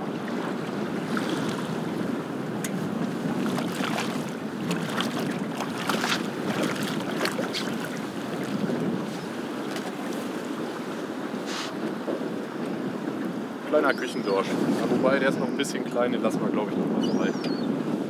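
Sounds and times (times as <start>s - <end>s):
water lapping at boat: 0.0s - 18.0s
wind buffeting microphone: 0.0s - 18.0s.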